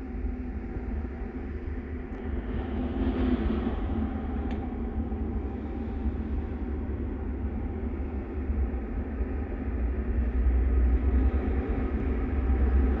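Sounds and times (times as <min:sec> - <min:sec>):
low machine rumble: 0:00.0 - 0:13.0.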